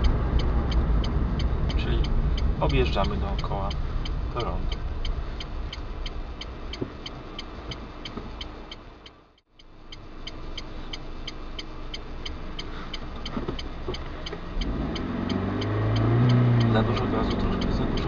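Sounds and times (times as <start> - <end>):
car engine idling: 0.0 - 18.0
turn signal relay clicking: 0.0 - 18.0.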